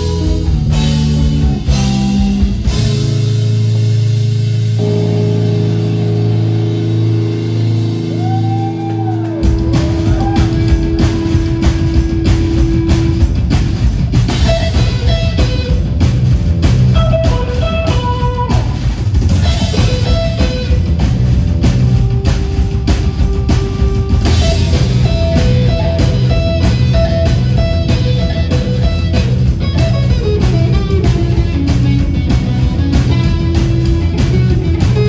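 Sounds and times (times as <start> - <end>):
lead guitar melody: 0.0 - 35.0
live rock band playing: 0.0 - 35.0.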